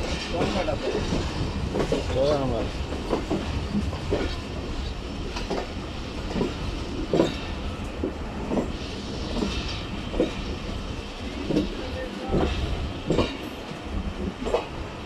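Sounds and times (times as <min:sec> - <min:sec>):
wheel clacks over rail joints: 0:00.0 - 0:10.6, 0:11.4 - 0:14.7
train coach rumbling: 0:00.0 - 0:15.0.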